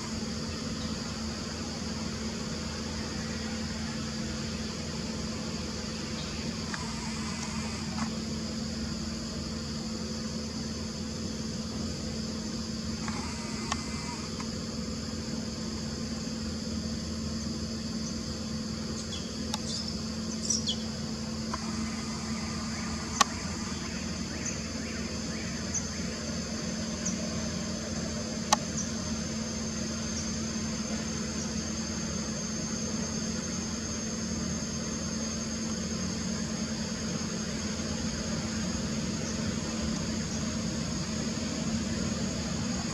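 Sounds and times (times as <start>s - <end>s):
high-pitched insect drone: 0.0s - 42.9s
low hum: 0.0s - 42.9s.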